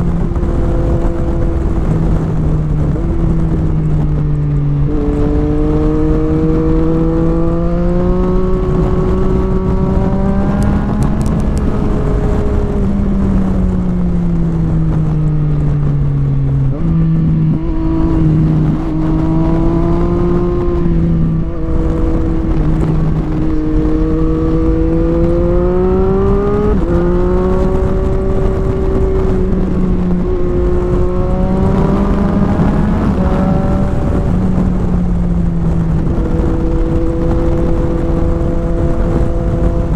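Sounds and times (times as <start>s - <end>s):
motorcycle engine revving: 0.0s - 39.9s
wind rumble: 0.0s - 39.9s.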